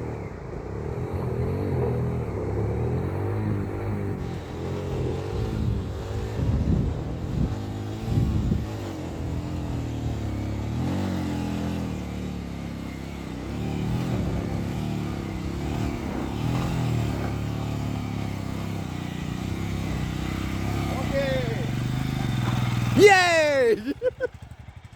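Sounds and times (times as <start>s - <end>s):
motorcycle engine revving: 0.8s - 24.9s.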